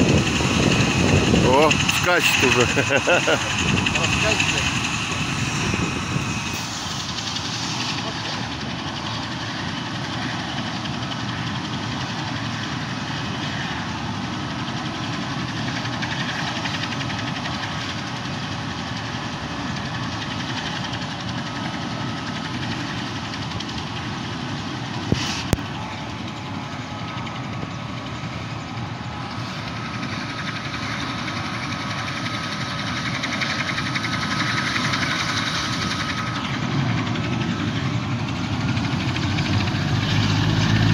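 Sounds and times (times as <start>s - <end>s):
helicopter turbine and rotor running: 0.0s - 40.9s.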